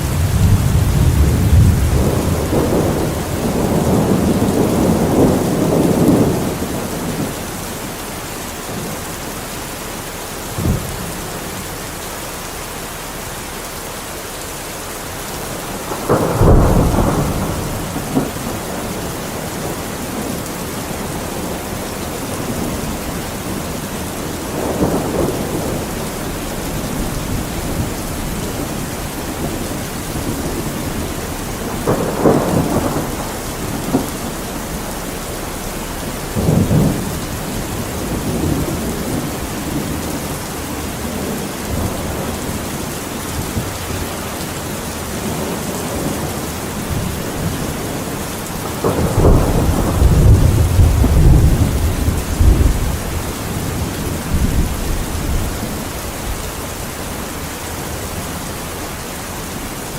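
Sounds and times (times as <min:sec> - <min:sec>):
thunder rumbling: 0:00.0 - 0:12.0, 0:15.2 - 0:59.9
steady rainfall: 0:00.0 - 0:59.9.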